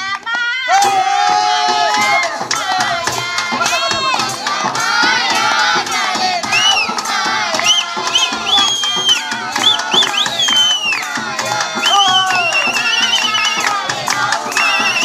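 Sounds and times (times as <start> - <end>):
group singing folk song chorus: 0.0 - 15.0
handclaps: 1.7 - 15.0.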